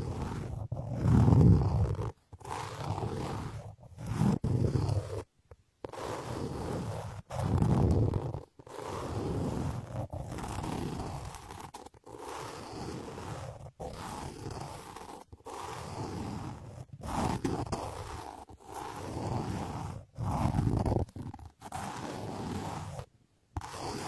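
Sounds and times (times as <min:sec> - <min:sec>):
scraping and brushing on microphone: 0:00.0 - 0:24.0.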